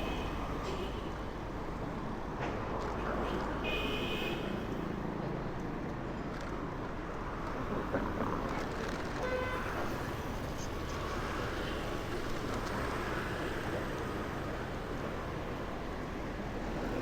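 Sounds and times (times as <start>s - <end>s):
motorbike and car traffic: 0.0s - 17.0s.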